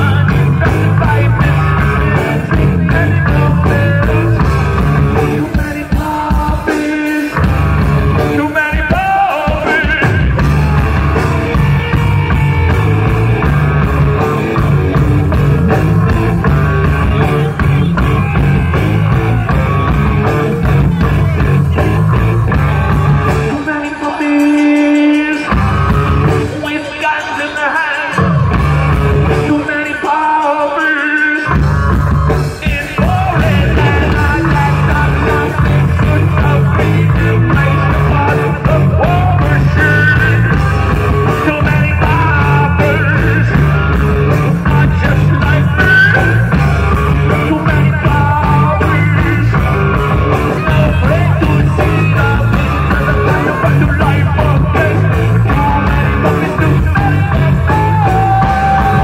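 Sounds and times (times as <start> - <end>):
electric guitar: 0.0 - 59.0
heavy bass and drums: 0.0 - 59.0
rock band playing live: 0.0 - 59.0.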